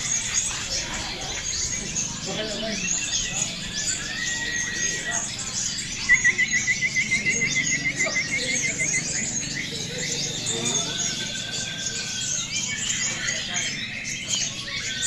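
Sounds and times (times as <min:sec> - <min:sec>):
bird trilling: 0:00.0 - 0:15.0
songbirds chirping and whistling: 0:00.0 - 0:15.0
bird steady whistle: 0:02.6 - 0:15.0.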